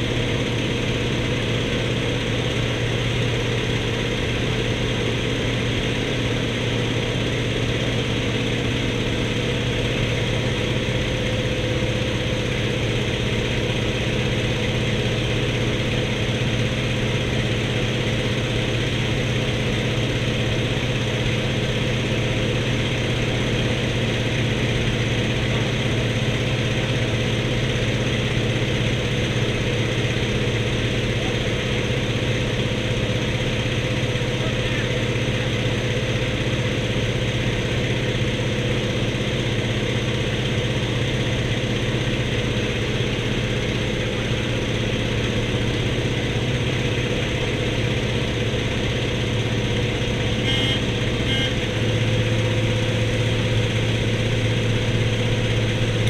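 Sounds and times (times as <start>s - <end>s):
radial aircraft engine droning: 0.0s - 56.0s.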